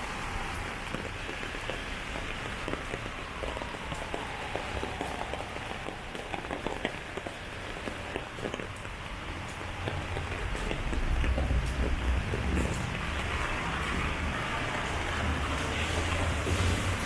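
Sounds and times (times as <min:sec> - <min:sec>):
rain drops ticking on umbrella: 0:00.0 - 0:17.0
steady hiss of downpour: 0:00.0 - 0:17.0.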